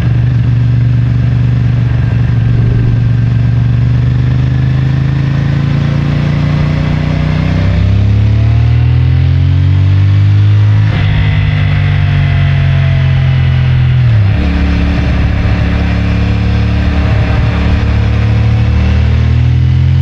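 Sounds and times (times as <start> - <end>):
motorcycle engine running: 0.0 - 8.5, 10.3 - 20.0.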